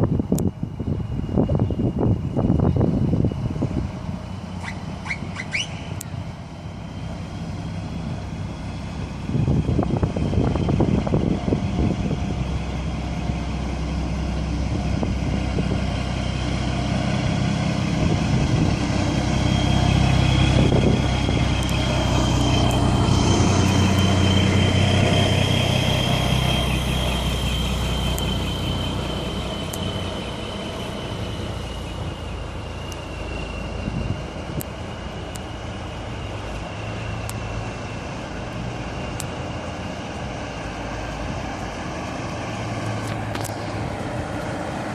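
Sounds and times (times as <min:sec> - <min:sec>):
trucks driving past: 0:00.1 - 0:44.9.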